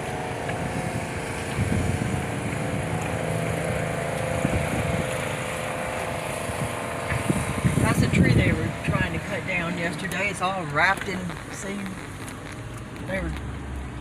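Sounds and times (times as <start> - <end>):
rough low rumble: 0.0 - 14.0
vehicle engine hum: 0.0 - 14.0.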